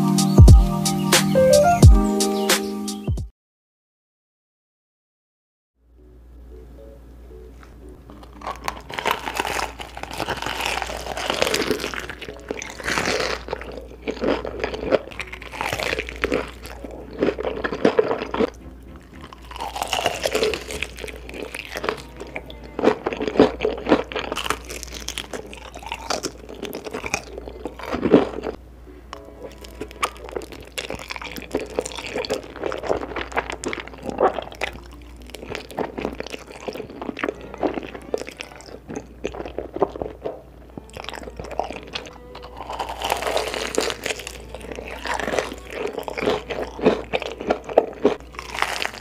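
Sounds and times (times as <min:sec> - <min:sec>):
wet chewing: 0:07.6 - 0:49.0
crisp crunching bites: 0:08.1 - 0:18.5, 0:19.2 - 0:28.6, 0:29.2 - 0:49.0.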